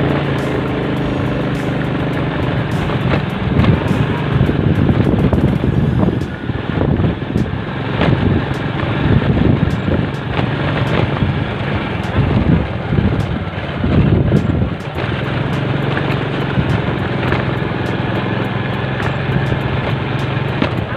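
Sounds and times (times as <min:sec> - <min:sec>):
motorcycle running: 0:00.0 - 0:20.9
wind buffeting microphone: 0:00.0 - 0:20.9.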